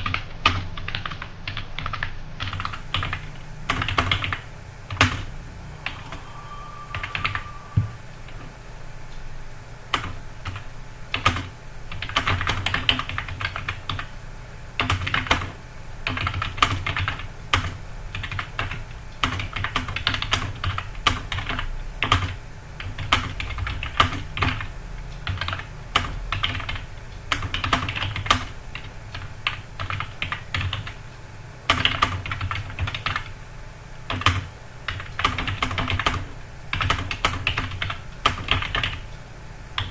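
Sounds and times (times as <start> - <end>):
computer keyboard typing: 0.0 - 5.2, 9.9 - 14.1, 14.8 - 31.0, 31.7 - 33.4, 34.1 - 39.1.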